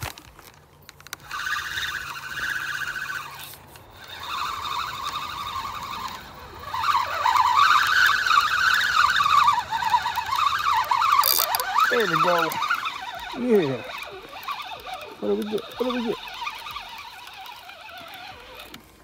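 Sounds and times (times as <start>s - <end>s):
fishing reel gears whining: 1.0s - 19.0s.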